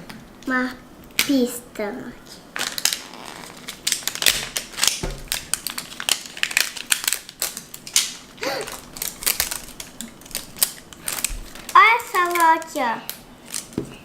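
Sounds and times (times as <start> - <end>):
plastic wrapping crinkling: 2.5 - 14.0.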